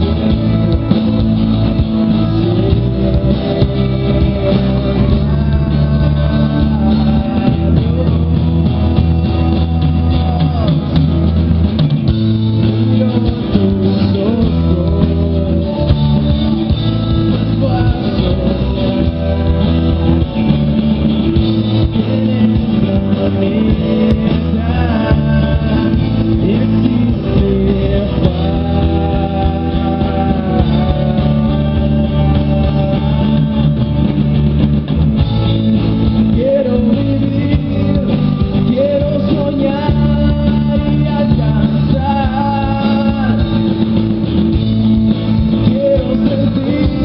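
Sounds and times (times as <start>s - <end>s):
drums: 0.0s - 47.0s
electric guitar: 0.0s - 47.0s
person singing: 0.0s - 47.0s.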